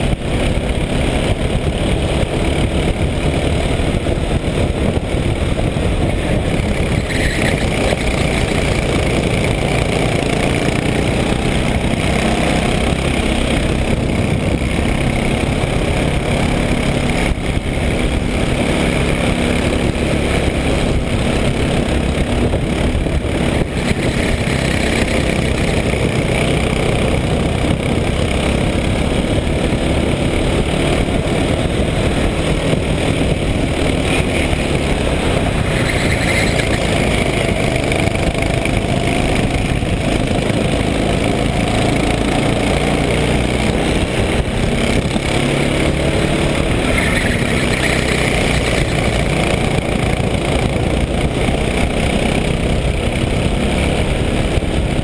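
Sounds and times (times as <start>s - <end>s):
go-kart engine running hard: 0.0s - 55.0s
wind rumble on microphone: 0.0s - 55.0s.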